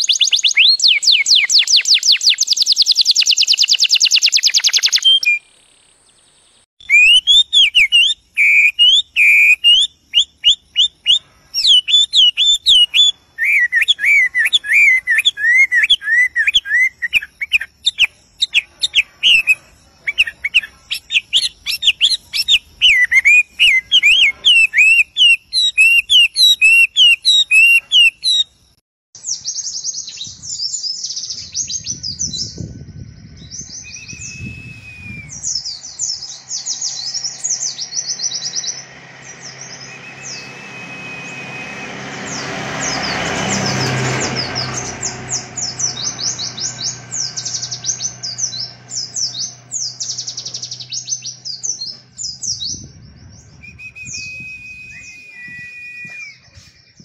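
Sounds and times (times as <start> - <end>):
bird singing whistled phrases: 0.0 - 5.5, 6.8 - 28.5, 29.4 - 42.5, 47.4 - 57.0
bird high rapid twittering: 0.0 - 28.5, 29.4 - 57.0.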